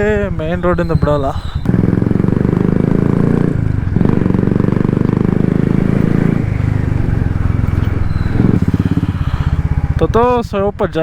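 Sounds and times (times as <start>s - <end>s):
motorcycle engine thumping: 0.0s - 10.3s.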